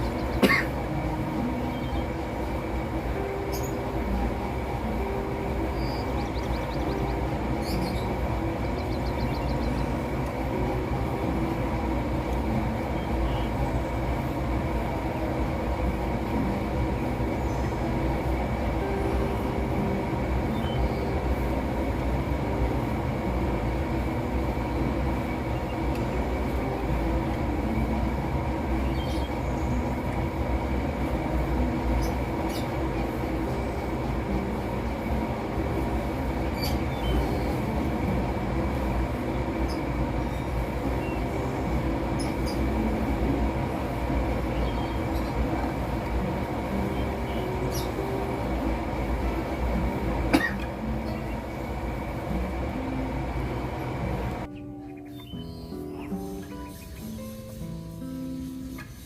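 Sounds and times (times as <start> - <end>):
mechanical drone: 0.0 - 54.6.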